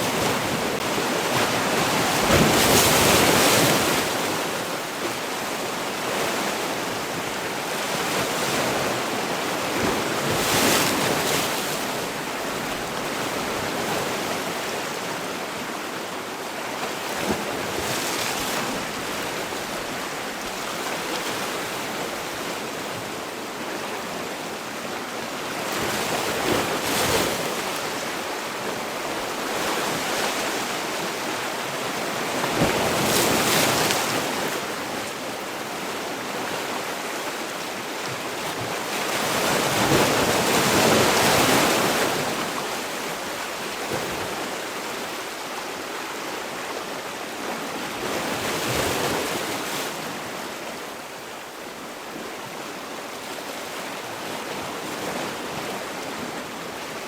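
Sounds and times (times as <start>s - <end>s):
sea waves breaking: 0.0s - 15.8s, 16.9s - 57.0s.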